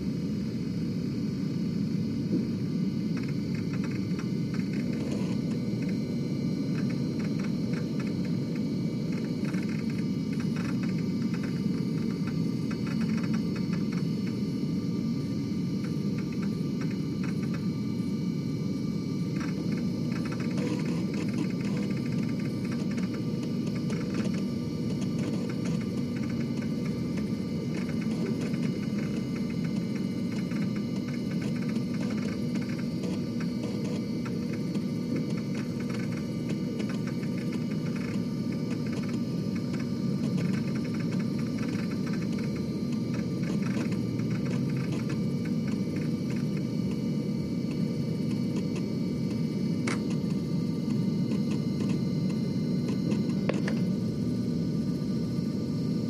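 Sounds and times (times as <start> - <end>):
disk drive humming: 0.0 - 56.0.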